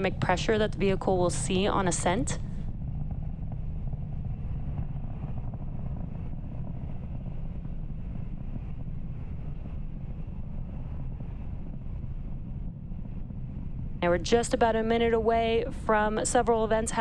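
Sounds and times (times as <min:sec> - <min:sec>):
rocket engines rumbling: 0:00.0 - 0:17.0.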